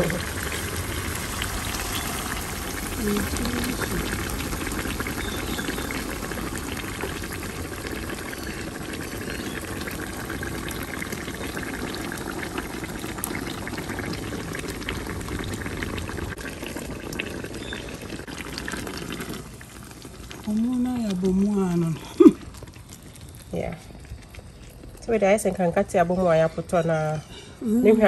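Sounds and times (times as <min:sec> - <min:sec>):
oil and onions sizzling: 0:00.0 - 0:28.0.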